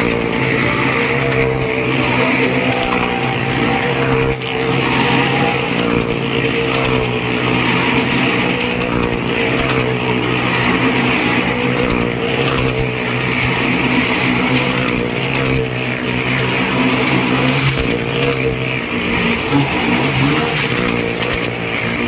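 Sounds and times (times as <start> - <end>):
car and motorcycle engines droning: 0.0 - 22.0.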